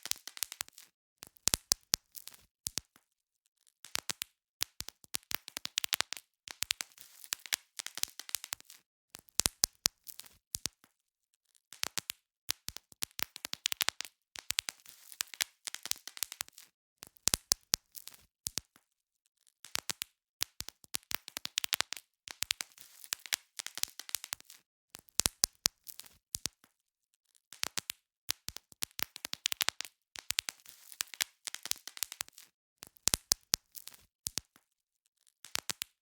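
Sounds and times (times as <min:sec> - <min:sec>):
bubble wrap popping: 0:00.0 - 0:03.0, 0:03.8 - 0:10.9, 0:11.7 - 0:18.8, 0:19.7 - 0:26.7, 0:27.5 - 0:34.6, 0:35.4 - 0:36.0.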